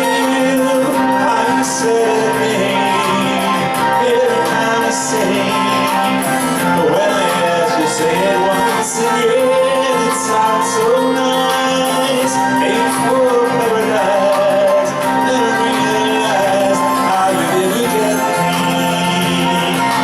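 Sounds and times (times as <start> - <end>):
guitar chords: 0.0 - 20.0
person singing: 0.0 - 20.0.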